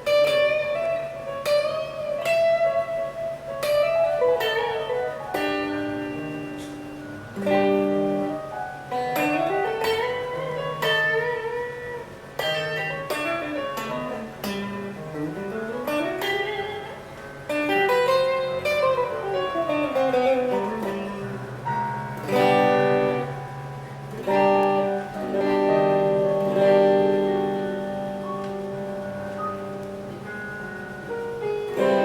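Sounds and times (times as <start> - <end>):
electric guitar chords ringing: 0.0 - 32.0
electric guitar single notes: 0.0 - 32.0.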